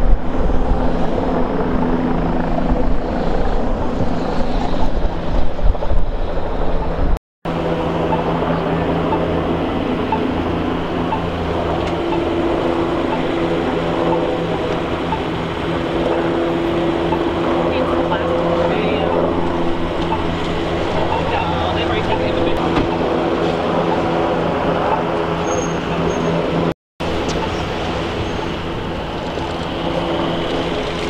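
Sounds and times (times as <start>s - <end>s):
engine drone: 0.0s - 31.0s
wind buffeting microphone: 0.0s - 31.0s.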